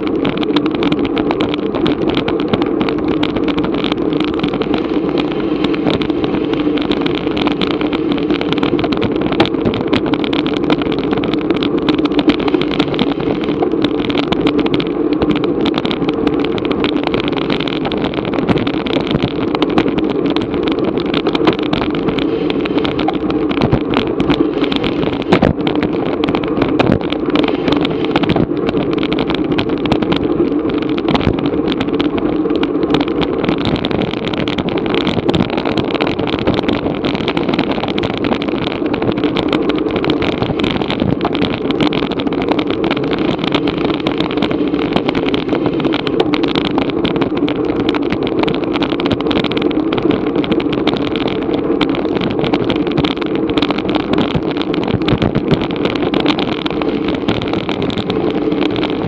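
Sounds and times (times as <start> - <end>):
road noise: 0.0 - 59.0
wind rush: 0.0 - 59.0.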